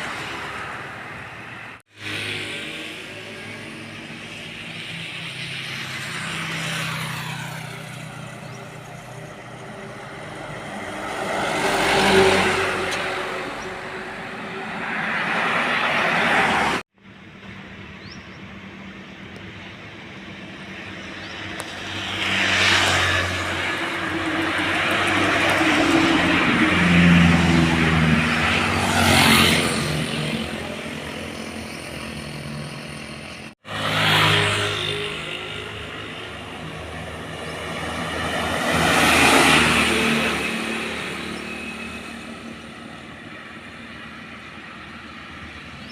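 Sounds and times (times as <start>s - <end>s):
heavy diesel trucks driving past: 0.0s - 45.9s.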